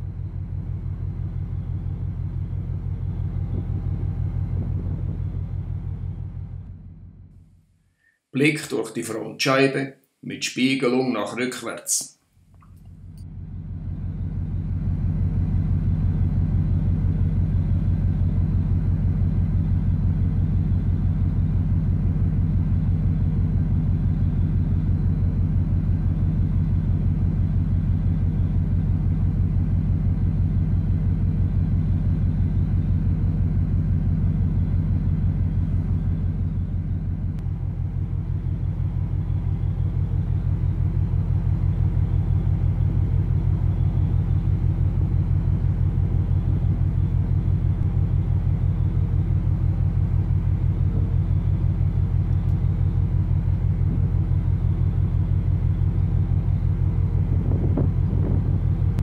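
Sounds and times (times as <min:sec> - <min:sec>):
ship engines rumbling: 0:00.0 - 0:07.3, 0:13.0 - 0:59.0.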